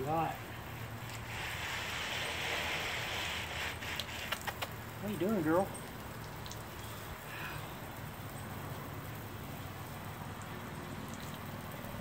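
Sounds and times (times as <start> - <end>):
water spraying onto wet concrete: 0.0 - 12.0.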